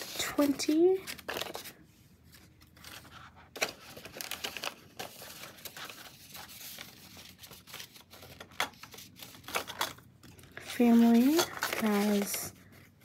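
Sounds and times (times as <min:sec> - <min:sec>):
plastic envelope crinkling: 0:00.0 - 0:12.7
paper bills rustling: 0:00.0 - 0:13.0.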